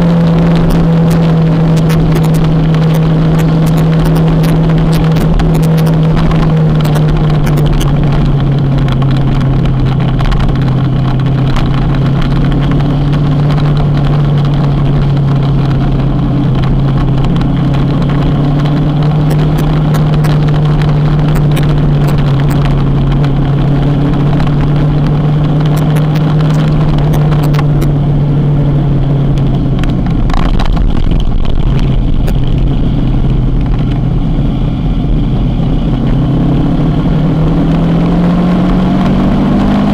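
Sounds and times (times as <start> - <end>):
motorcycle engine riding: 0.0 - 39.9
road noise rush: 0.0 - 39.9.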